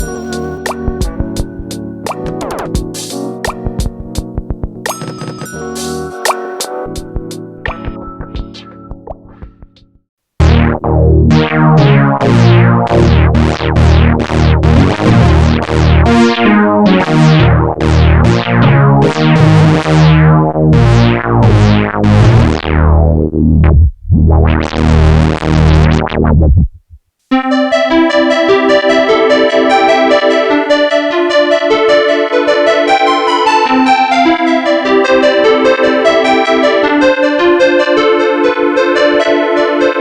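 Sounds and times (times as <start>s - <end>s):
synthesizer chords: 0.0s - 8.5s, 10.4s - 26.6s, 27.3s - 40.0s.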